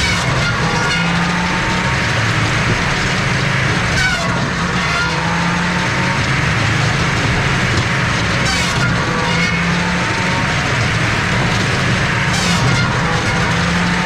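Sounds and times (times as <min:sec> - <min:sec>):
circular saw cutting log: 0:00.0 - 0:14.0
firewood processor engine droning: 0:00.0 - 0:14.0.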